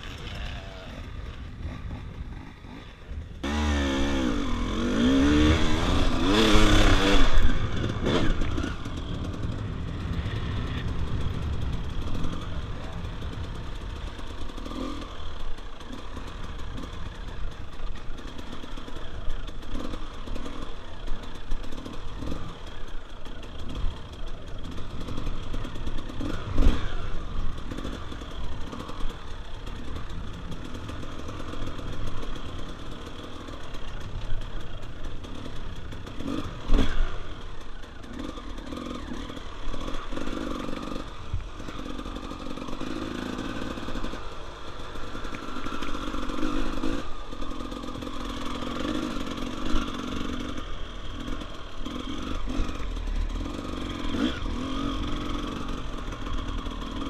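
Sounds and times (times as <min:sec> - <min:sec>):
dirt bike engine at low revs: 0:00.0 - 0:57.0.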